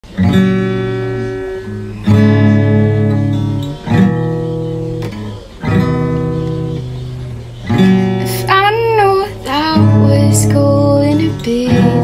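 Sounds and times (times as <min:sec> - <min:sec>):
acoustic guitar chords strummed: 0:00.0 - 0:12.0.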